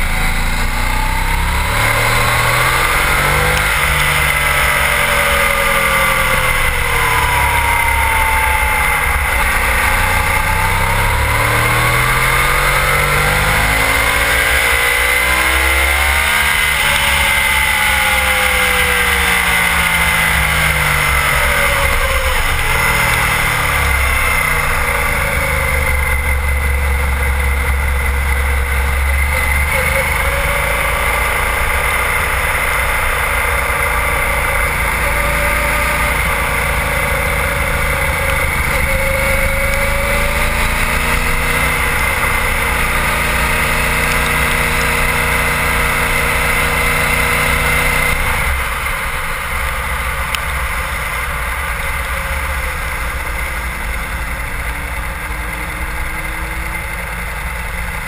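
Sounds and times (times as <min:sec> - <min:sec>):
motorcycle engine running at speed: 0:00.0 - 0:58.0.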